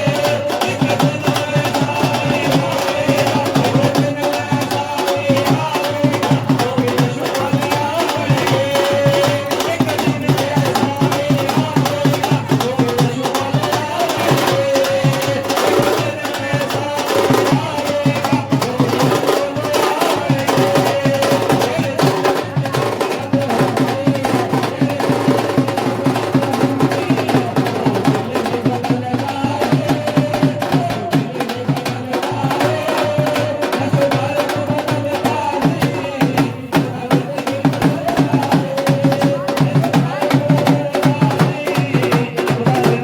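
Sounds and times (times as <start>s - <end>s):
fast dense percussion beat: 0.0s - 43.0s.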